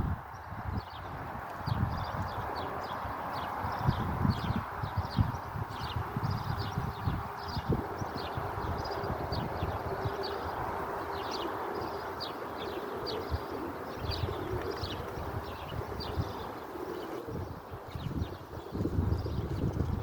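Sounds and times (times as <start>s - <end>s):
steady outdoor hum: 0.0s - 20.0s
birds chirping: 0.1s - 20.0s.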